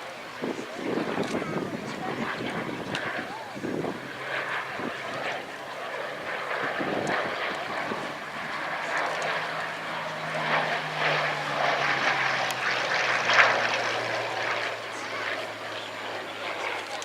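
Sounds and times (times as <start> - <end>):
propeller aircraft engine droning: 0.0 - 17.0.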